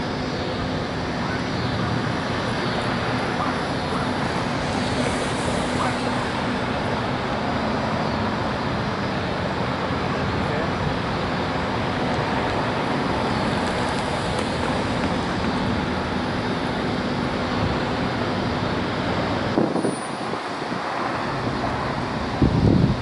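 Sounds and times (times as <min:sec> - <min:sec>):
light background rush: 0:00.0 - 0:23.0
traffic noise: 0:00.0 - 0:23.0.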